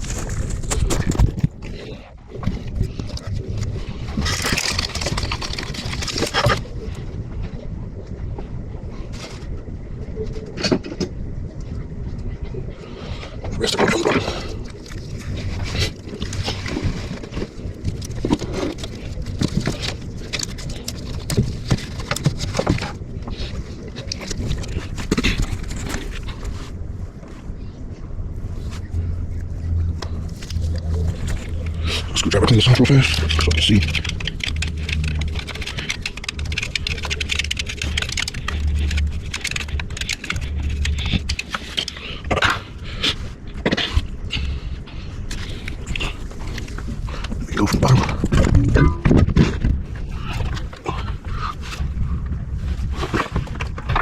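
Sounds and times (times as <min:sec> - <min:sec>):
low hum: 0:00.0 - 0:54.0
steady low rumble: 0:00.0 - 0:54.0.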